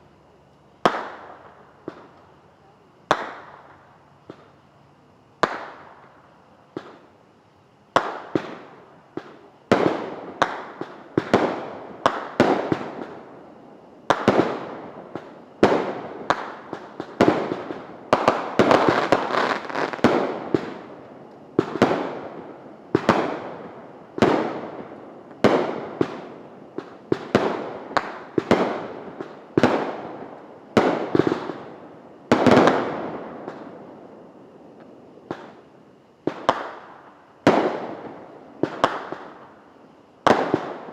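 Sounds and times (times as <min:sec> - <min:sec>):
fireworks bangs and crackle: 0:00.8 - 0:02.3, 0:03.1 - 0:04.6, 0:05.4 - 0:07.1, 0:07.9 - 0:13.3, 0:14.0 - 0:33.9, 0:34.7 - 0:40.9.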